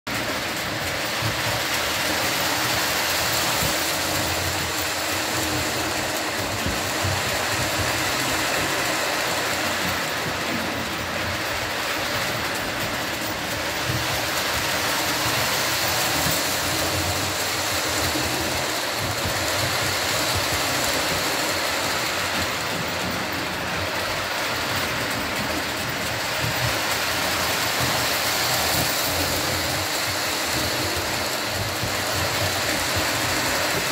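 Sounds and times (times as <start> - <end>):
model train motors whirring: 0.1 - 33.9
wheels clattering on rails: 0.1 - 33.9.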